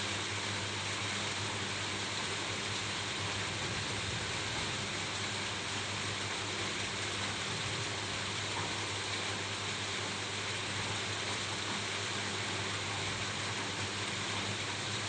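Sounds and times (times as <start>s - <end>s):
rain falling on a roof: 0.0s - 15.0s.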